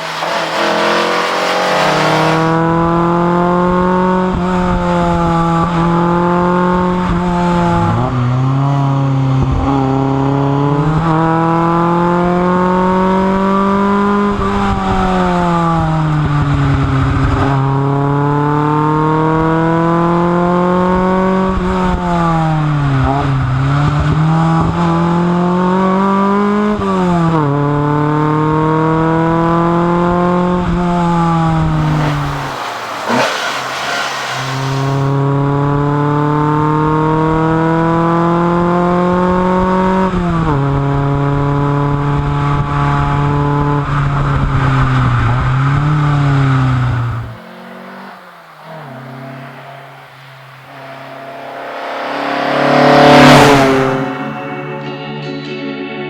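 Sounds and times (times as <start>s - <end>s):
rally car engine revving: 0.0s - 55.2s.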